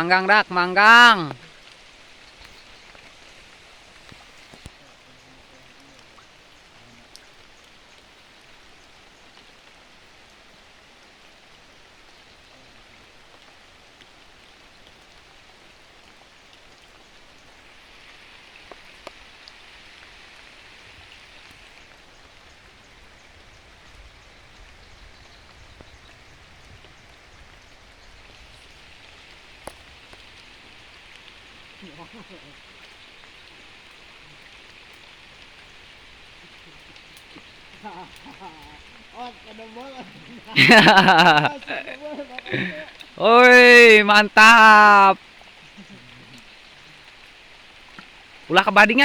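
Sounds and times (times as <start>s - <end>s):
steady rain falling: 0.0s - 49.0s
sharp raindrop ticks: 1.2s - 43.5s, 45.1s - 49.0s.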